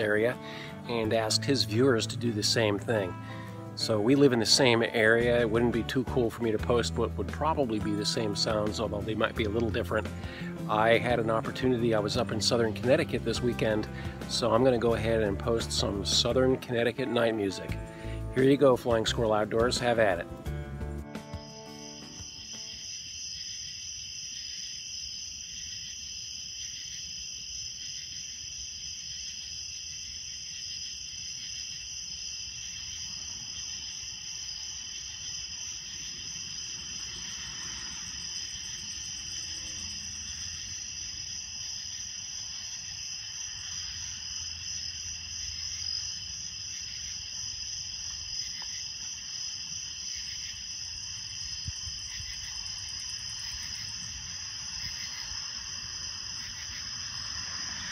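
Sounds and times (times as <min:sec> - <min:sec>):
crickets and katydids trilling: 0:00.0 - 0:20.2, 0:21.2 - 0:57.9.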